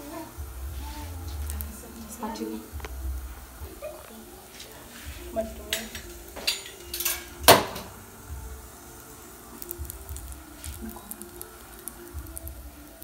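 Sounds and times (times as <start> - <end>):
batter sizzling in a frying pan: 0.0 - 13.0.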